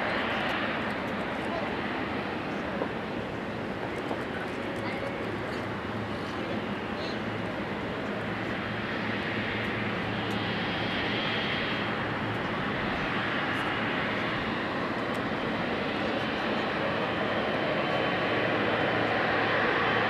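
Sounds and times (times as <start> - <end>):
jet engines rumbling with whine: 0.0 - 20.0.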